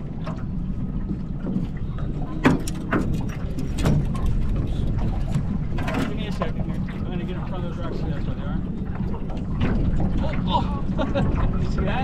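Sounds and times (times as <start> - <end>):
outboard motor running: 0.0 - 12.0
wind on microphone: 0.0 - 12.0.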